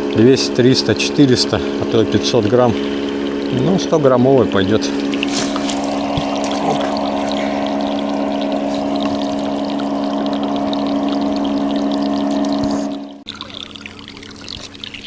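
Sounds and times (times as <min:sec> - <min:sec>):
boat motor droning: 0:00.0 - 0:15.0
water trickling and splashing: 0:00.0 - 0:15.0.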